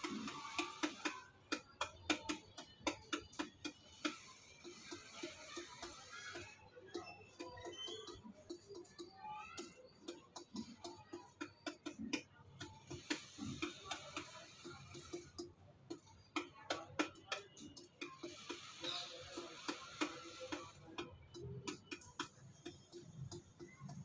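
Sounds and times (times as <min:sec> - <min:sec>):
pigeon pecking in metal bowl: 0:00.0 - 0:24.0.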